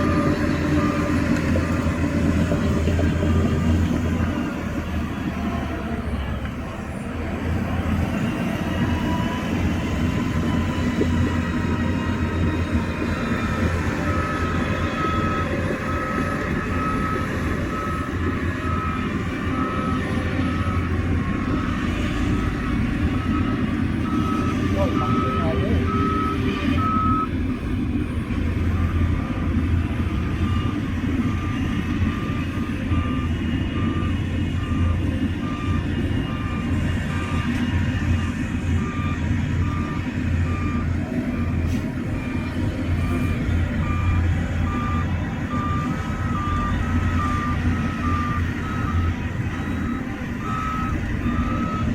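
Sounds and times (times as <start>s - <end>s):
reversing alarm beeping: 0.0s - 5.4s, 8.0s - 27.4s, 28.6s - 51.9s
diesel earthmoving machinery rumbling: 0.0s - 51.9s.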